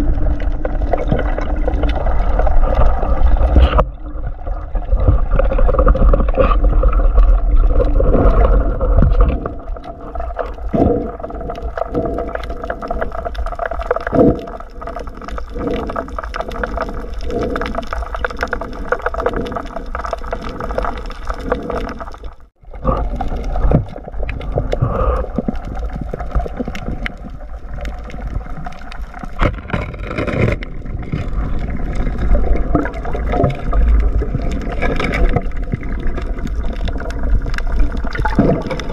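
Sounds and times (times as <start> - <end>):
water gurgling underwater: 0.0 - 38.9.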